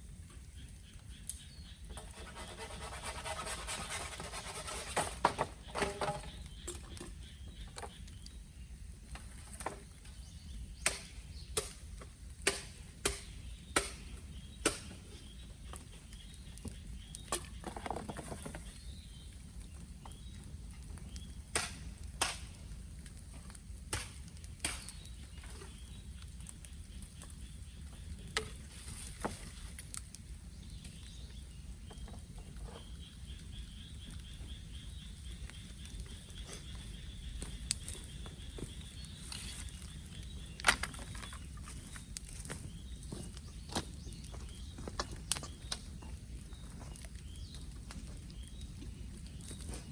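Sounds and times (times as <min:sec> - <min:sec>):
bamboo crackling and popping: 0:00.0 - 0:49.9
fire rumbling: 0:00.0 - 0:49.9.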